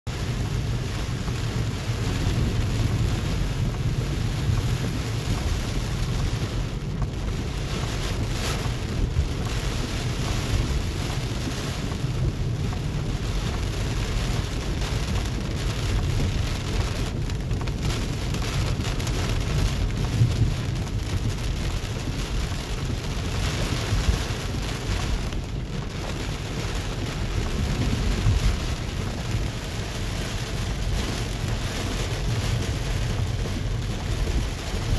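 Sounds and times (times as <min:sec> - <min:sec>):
car rumbling on wet road: 0:00.1 - 0:34.9
heavy rain on car roof: 0:00.1 - 0:34.9.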